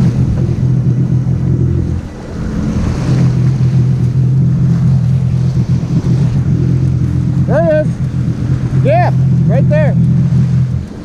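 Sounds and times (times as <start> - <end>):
jet ski engine running: 0.0 - 11.0
sea water: 0.0 - 11.0
wind on microphone: 0.0 - 11.0.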